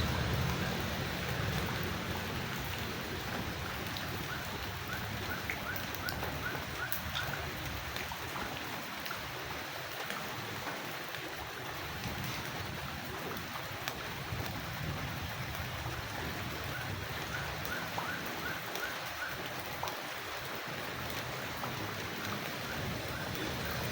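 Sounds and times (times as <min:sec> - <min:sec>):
rain on surfaces: 0:00.0 - 0:23.9.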